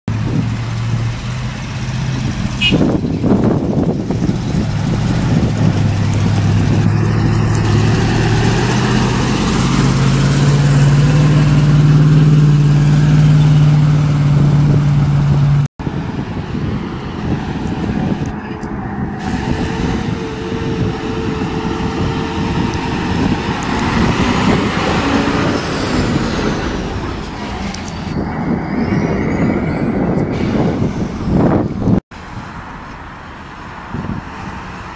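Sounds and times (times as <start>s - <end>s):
fire truck engines revving: 0.1s - 34.9s
traffic moving along road: 0.1s - 34.9s.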